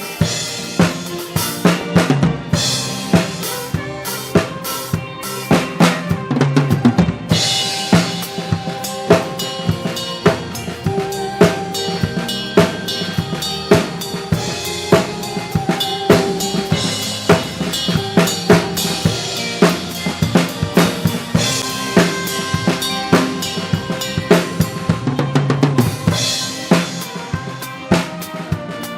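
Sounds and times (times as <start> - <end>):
drum beat: 0.0 - 28.9
live band playing dance tune: 0.0 - 28.9.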